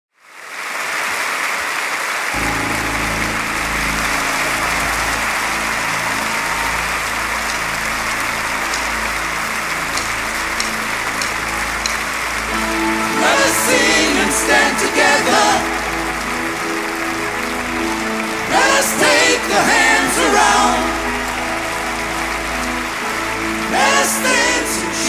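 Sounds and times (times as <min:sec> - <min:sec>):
audience applauding: 0:00.2 - 0:25.0
low held chord: 0:02.4 - 0:25.0.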